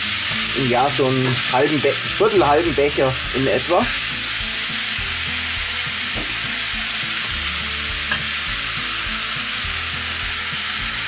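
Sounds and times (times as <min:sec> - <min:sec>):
chicken sizzling in pan: 0:00.0 - 0:11.0.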